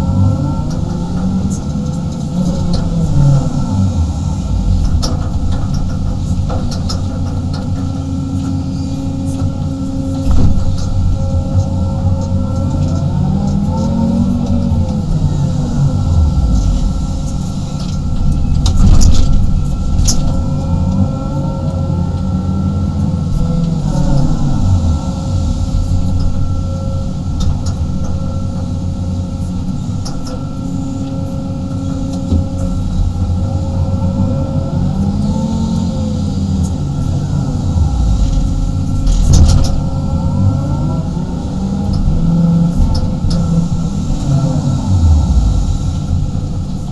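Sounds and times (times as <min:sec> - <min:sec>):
constant hydraulic whine: 0:00.0 - 0:46.9
excavator engine and hydraulics: 0:00.0 - 0:46.9.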